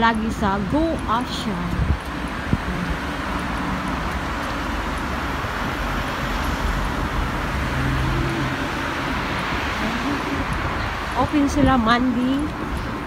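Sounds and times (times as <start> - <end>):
cars passing on road: 0.0 - 13.0
vehicle engine hum: 0.0 - 13.0.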